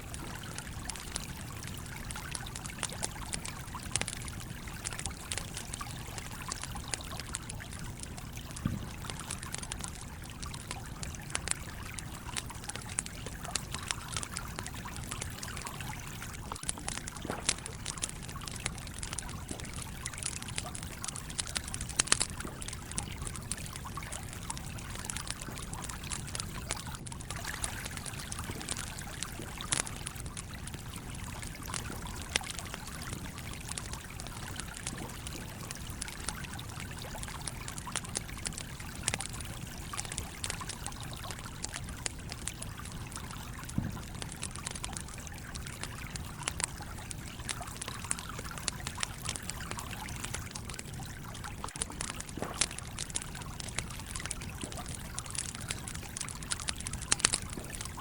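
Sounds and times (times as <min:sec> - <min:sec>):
campfire crackling and popping: 0:00.0 - 0:58.0
flowing stream: 0:00.0 - 0:58.0.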